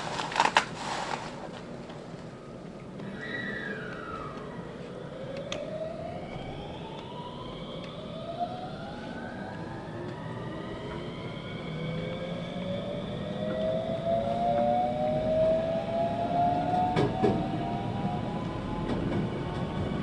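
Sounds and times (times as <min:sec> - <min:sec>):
electric train motors whining: 0:03.0 - 0:20.0.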